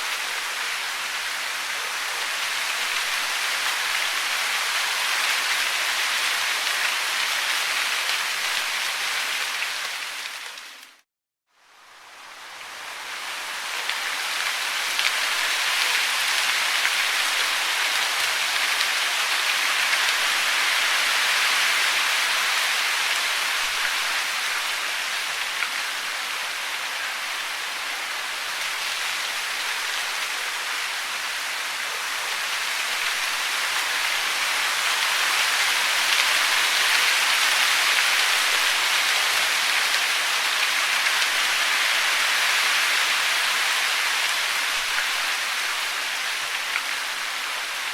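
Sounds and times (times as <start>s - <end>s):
falling water hiss: 0.0s - 11.0s, 12.0s - 47.9s.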